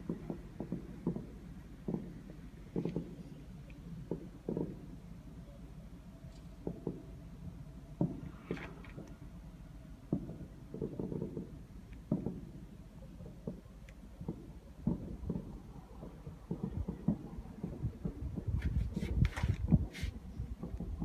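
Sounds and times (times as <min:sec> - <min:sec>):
distant fireworks booming: 0:00.0 - 0:05.8, 0:06.6 - 0:19.0, 0:19.6 - 0:21.0.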